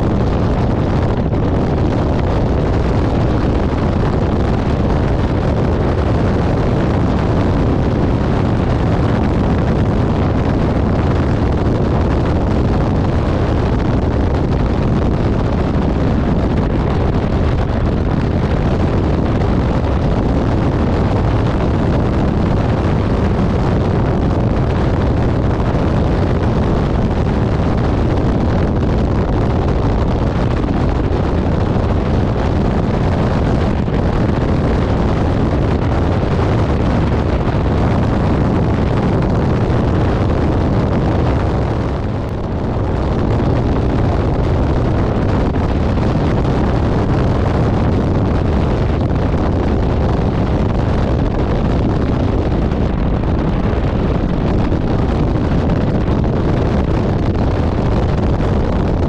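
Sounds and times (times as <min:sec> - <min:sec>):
wind roaring on microphone: 0:00.0 - 0:59.0.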